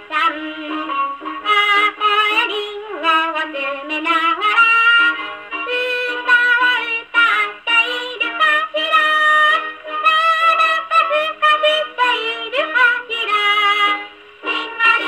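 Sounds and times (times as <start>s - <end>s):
gramophone song with singing voice: 0.0s - 15.0s.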